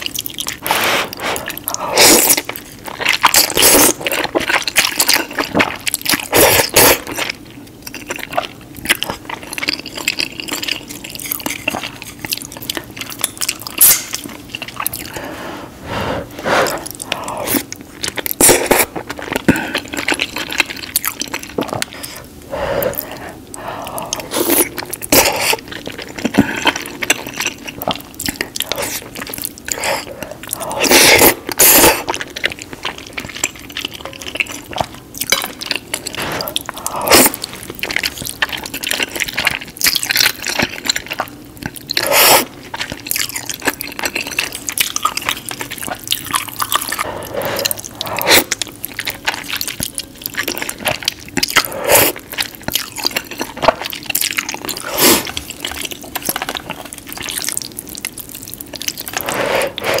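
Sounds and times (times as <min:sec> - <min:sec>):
slurping noodles: 0:00.0 - 0:07.4, 0:13.8 - 0:57.7, 0:58.8 - 1:00.0
wet chewing: 0:00.0 - 1:00.0.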